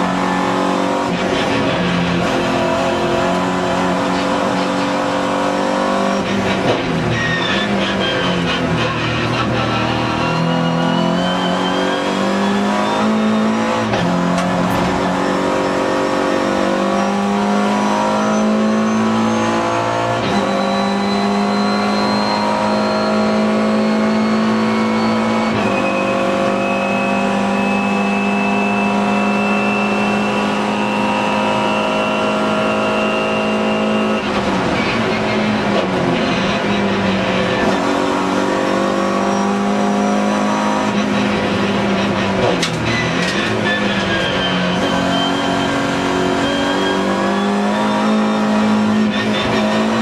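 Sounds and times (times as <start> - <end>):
race car engine accelerating: 0.0 - 50.0.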